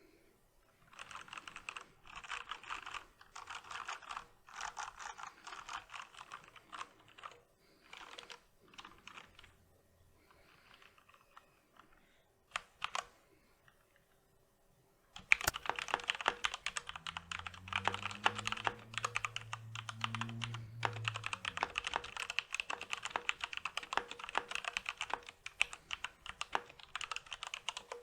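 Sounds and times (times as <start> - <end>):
typing on mechanical keyboard: 0.9 - 9.6, 10.3 - 13.1, 15.2 - 28.0.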